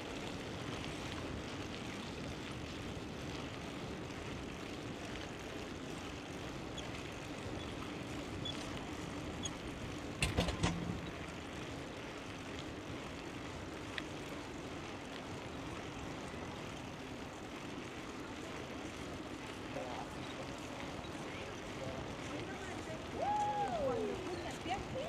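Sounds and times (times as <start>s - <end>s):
bicycle tyre noise: 0.0s - 25.0s.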